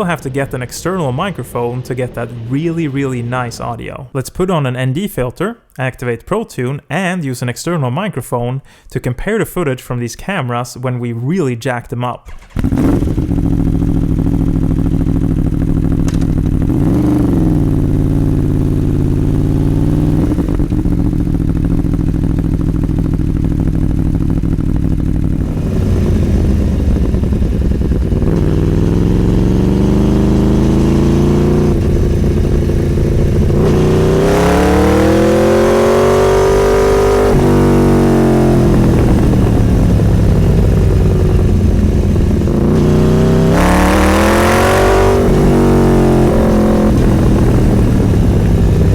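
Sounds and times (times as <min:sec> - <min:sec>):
motorcycle engine running: 0:00.0 - 0:03.7, 0:12.3 - 0:48.9.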